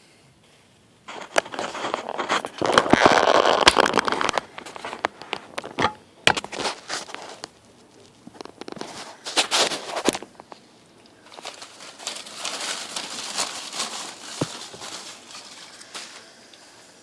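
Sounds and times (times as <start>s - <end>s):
bark fibres rustling and crackling: 1.1s - 16.5s.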